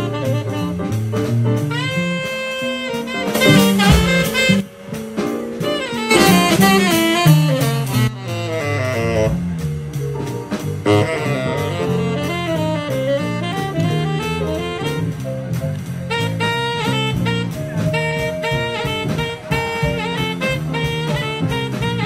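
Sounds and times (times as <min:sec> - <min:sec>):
bass line: 0:00.0 - 0:22.0
drum kit: 0:00.0 - 0:22.0
saxophone runs: 0:00.0 - 0:22.0.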